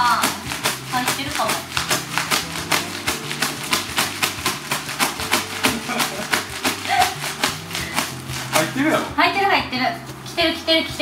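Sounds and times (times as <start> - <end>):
hand air pump puffing: 0.0 - 9.2.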